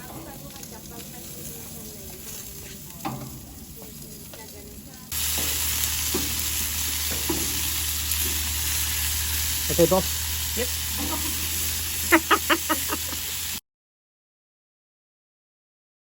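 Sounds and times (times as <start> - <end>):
meat sizzling on a grill: 0.0 - 13.6.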